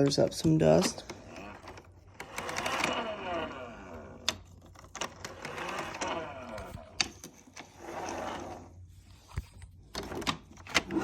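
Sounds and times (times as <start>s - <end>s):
plastic rustling and scraping: 0.0s - 11.0s.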